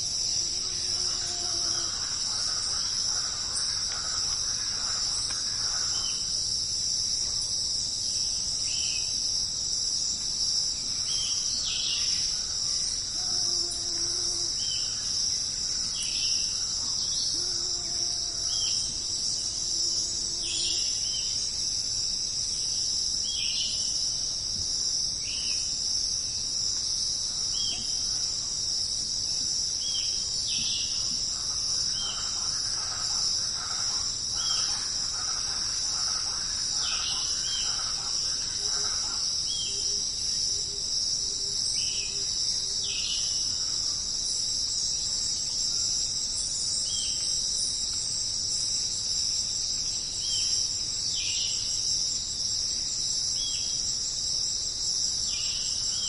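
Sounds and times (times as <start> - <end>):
high-pitched insect buzz: 0.0 - 6.5, 11.0 - 24.2, 24.9 - 56.0.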